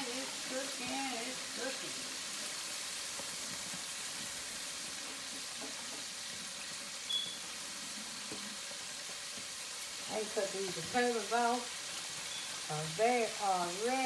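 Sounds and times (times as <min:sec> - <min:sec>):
chicken frying in grease: 0:00.0 - 0:14.0.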